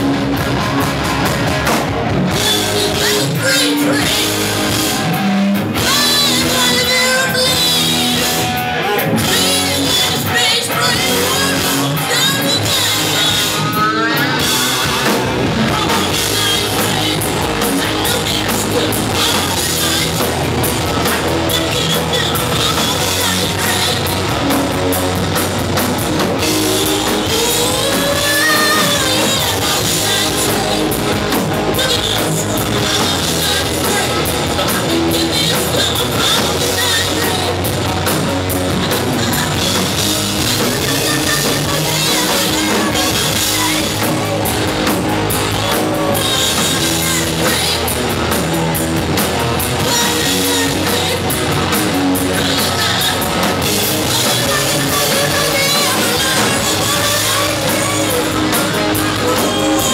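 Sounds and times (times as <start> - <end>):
drum kit: 0.0 - 59.9
electric guitar: 0.0 - 59.9
person singing: 0.0 - 59.9.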